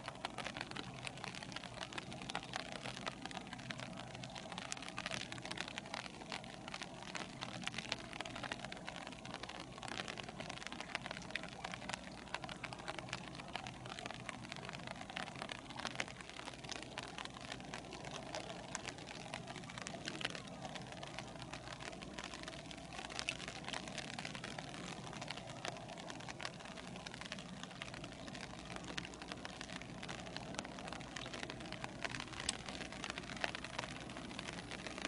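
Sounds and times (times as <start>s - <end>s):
low steady hum: 0.0s - 35.0s
rain falling: 0.0s - 35.0s.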